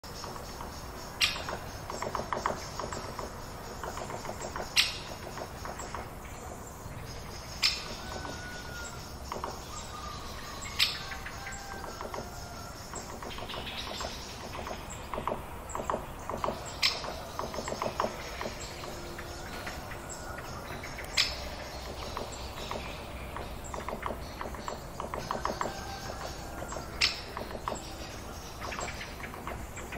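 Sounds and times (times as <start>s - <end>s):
birds chirping and calling: 0.0s - 29.9s
rapidly repeated bird calls: 0.0s - 29.9s
steady background hiss: 0.0s - 29.9s.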